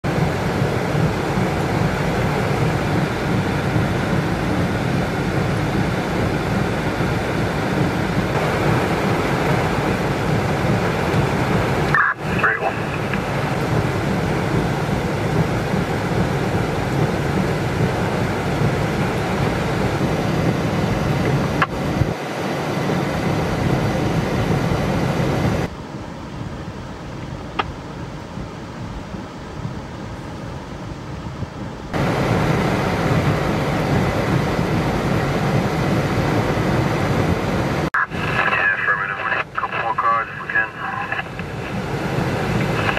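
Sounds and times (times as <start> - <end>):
torrential rain pouring: 0.1 - 27.2, 31.6 - 42.9
traffic driving through floodwater: 0.1 - 42.9.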